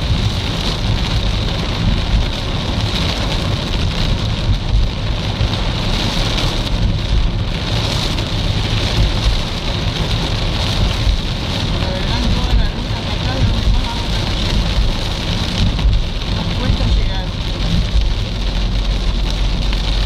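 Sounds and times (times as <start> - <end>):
car rumble and tyres on wet road: 0.0 - 20.0
heavy rain on car roof: 0.0 - 20.0.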